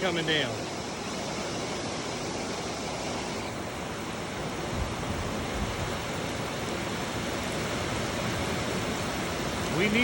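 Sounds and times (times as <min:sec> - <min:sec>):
heavy rain on a roof: 0:00.0 - 0:10.0.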